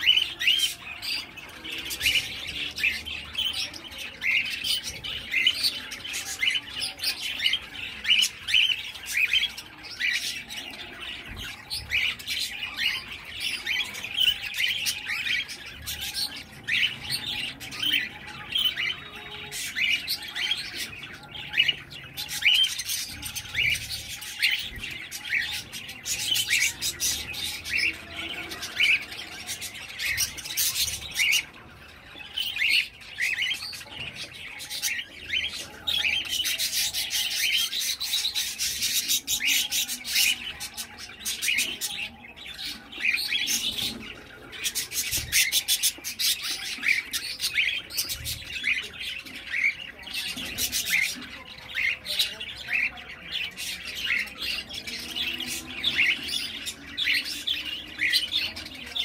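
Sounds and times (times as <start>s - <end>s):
cage birds chirping: 0.0s - 59.0s.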